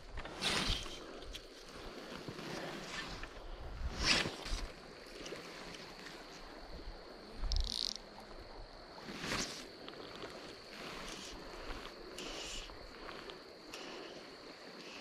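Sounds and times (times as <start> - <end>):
insects trilling: 0.0 - 15.0
fly line swish: 0.2 - 6.5, 9.0 - 15.0.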